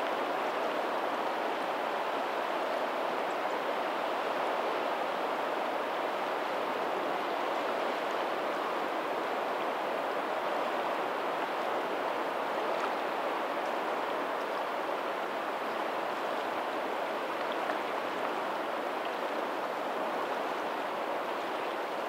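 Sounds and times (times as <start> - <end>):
rushing water: 0.0 - 22.0.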